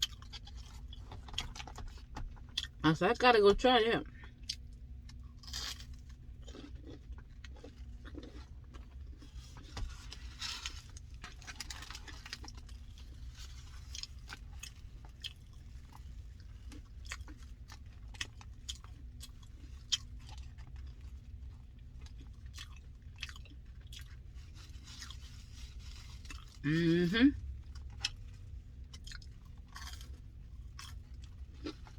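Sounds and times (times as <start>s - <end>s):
person chewing food: 0.0s - 2.8s, 4.2s - 26.7s, 27.5s - 31.9s.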